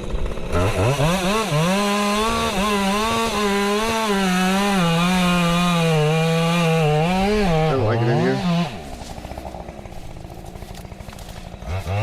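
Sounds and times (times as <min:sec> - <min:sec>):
chainsaw cutting tree trunk: 0:00.0 - 0:12.0.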